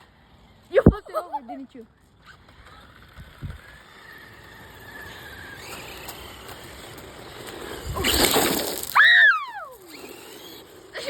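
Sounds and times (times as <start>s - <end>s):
toy car electric motor whining: 1.9s - 11.0s.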